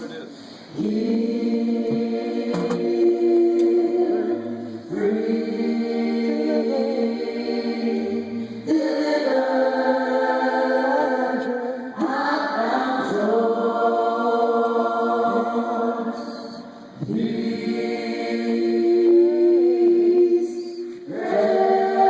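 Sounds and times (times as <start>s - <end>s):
vocal group singing harmony: 0.0s - 22.0s.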